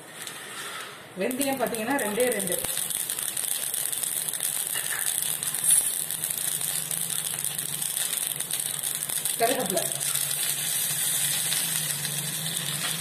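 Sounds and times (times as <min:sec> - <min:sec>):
mustard seeds crackling in oil: 0:01.2 - 0:13.0.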